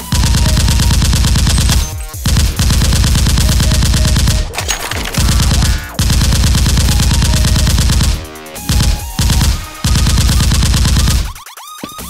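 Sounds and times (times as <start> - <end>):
machine-gun bursts sound effect: 0.0 - 11.4.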